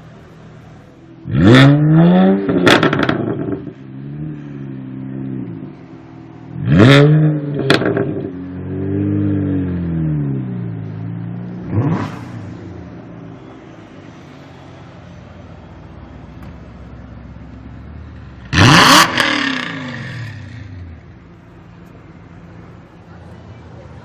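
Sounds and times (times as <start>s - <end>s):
car engine revving: 1.2s - 14.5s, 16.4s - 23.1s.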